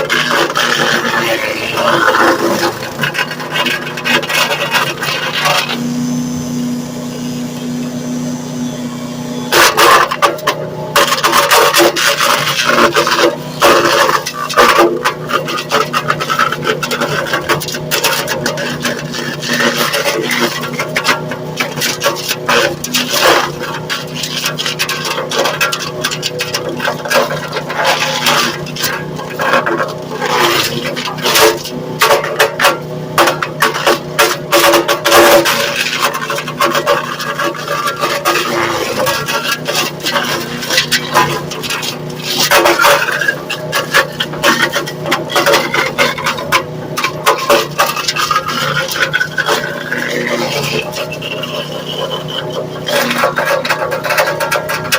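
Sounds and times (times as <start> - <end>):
crackle of wood being chipped: 0.0 - 5.8, 9.5 - 54.9
wood chipper motor hum: 0.0 - 54.9.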